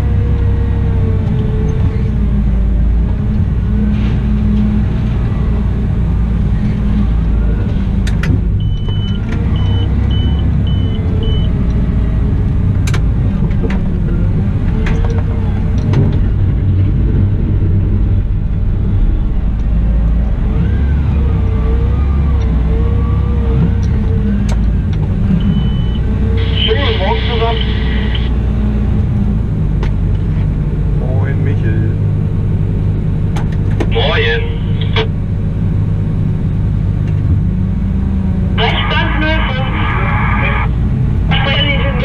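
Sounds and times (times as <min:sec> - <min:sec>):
wheel loader engine drone: 0:00.0 - 0:42.0.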